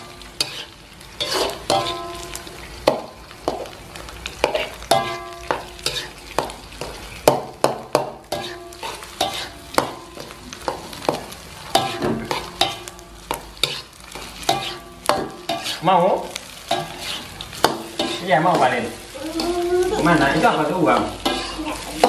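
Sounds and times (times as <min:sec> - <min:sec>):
metal spatula scraping a wok: 0:00.0 - 0:03.7, 0:04.3 - 0:19.6, 0:20.4 - 0:22.0
food sizzling in oil: 0:00.0 - 0:22.0.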